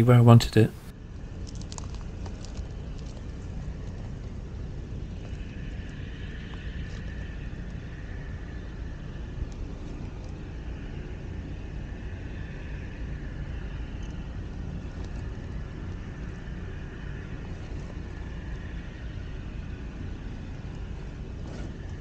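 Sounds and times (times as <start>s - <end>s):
faint high hum: 0.0s - 22.0s
low outdoor rumble: 0.0s - 22.0s.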